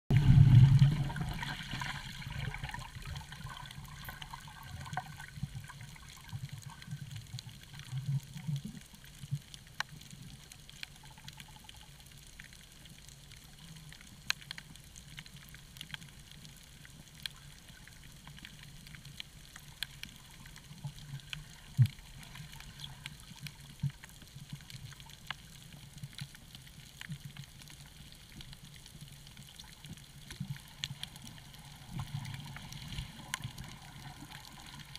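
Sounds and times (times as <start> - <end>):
low underwater rumble: 0.1 - 34.9
underwater rush and bubbling: 0.1 - 34.9.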